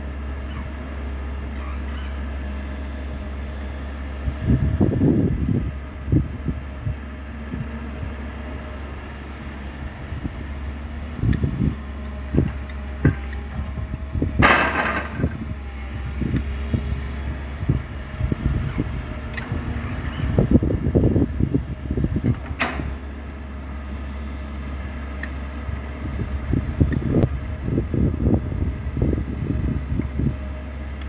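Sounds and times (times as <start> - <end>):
excavator diesel engine drone: 0.0 - 31.0.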